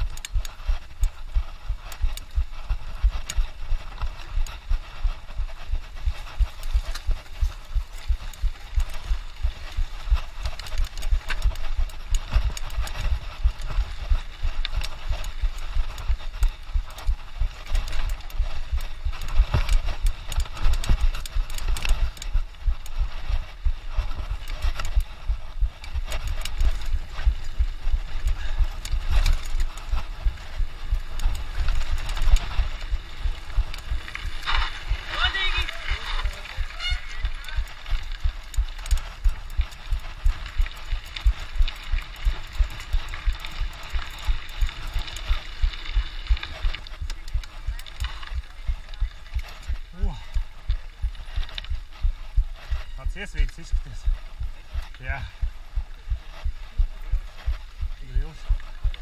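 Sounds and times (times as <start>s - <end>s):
bike rattling and knocking: 0.0s - 59.0s
wind buffeting microphone: 0.0s - 59.0s.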